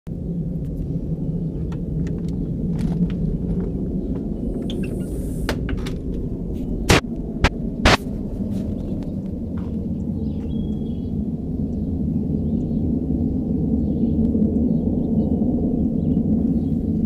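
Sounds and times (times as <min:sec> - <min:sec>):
low humming rumble from sky: 0:00.1 - 0:17.0.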